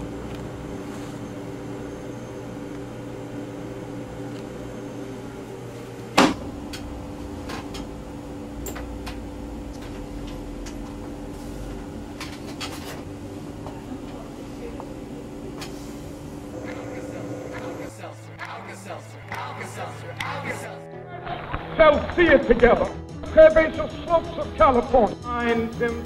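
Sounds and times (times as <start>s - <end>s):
electrical hum: 0.0s - 21.9s.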